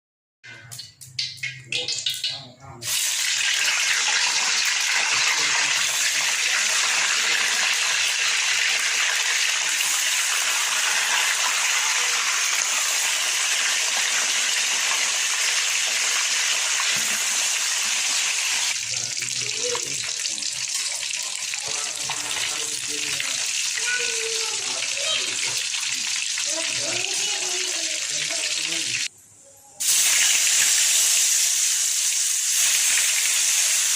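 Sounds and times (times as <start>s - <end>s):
water running from tap: 0.8s - 29.1s, 29.9s - 33.9s.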